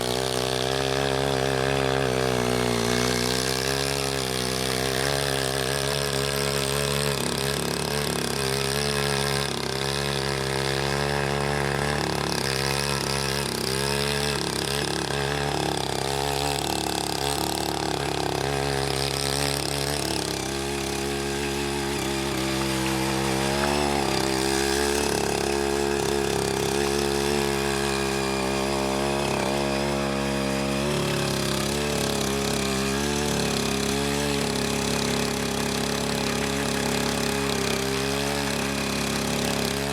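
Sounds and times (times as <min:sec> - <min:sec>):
hand tiller engine running: 0:00.0 - 0:39.9
tines churning wet mud: 0:00.0 - 0:39.9.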